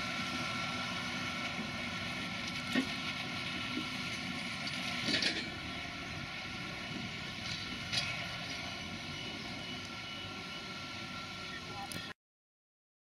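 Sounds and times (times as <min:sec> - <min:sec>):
tractor diesel engine running: 0:00.0 - 0:12.2.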